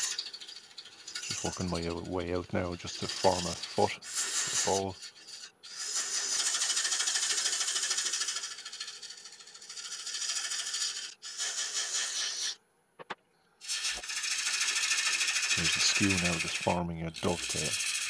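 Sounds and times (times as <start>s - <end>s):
lathe tool scraping wood: 0.0s - 12.5s, 13.7s - 18.0s.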